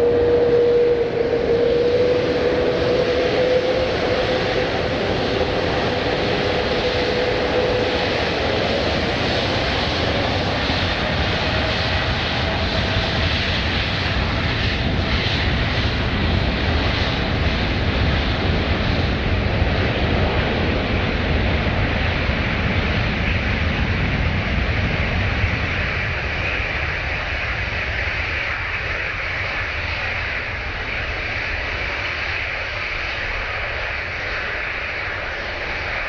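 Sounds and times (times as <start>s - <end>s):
jet engines roaring with whine: 0.0s - 36.0s.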